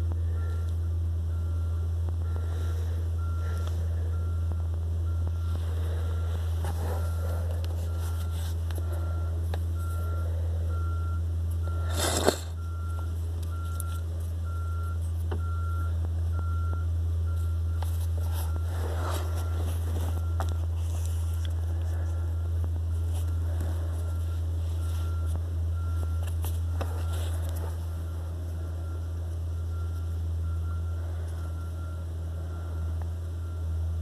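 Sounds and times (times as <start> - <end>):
low engine rumble: 0.0 - 34.0
reversing alarm beeping: 0.0 - 34.0.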